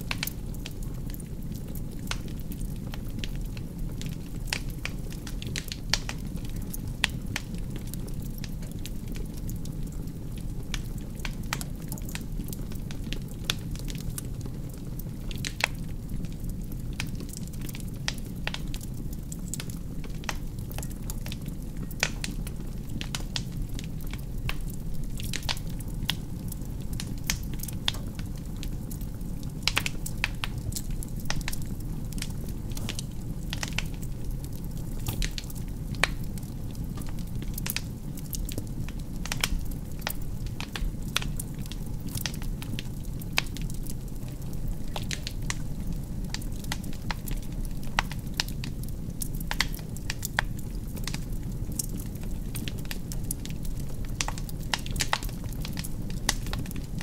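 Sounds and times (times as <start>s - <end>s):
fire crackling and popping: 0.0s - 57.0s
low rumble of flame: 0.0s - 57.0s.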